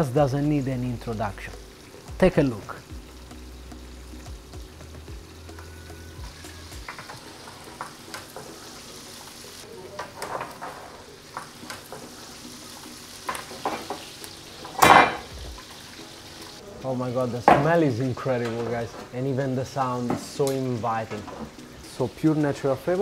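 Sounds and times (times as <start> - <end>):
meat sizzling in metal tray: 0.0 - 23.0.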